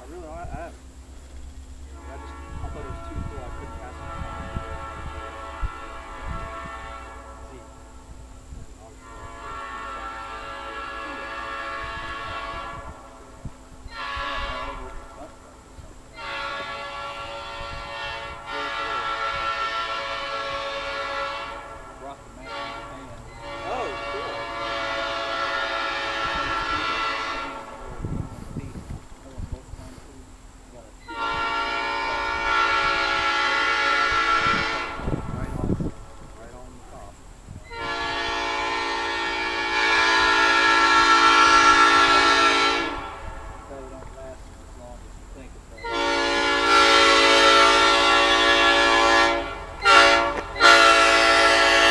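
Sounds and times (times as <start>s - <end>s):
train horn blast: 0.0s - 0.9s, 1.8s - 51.9s.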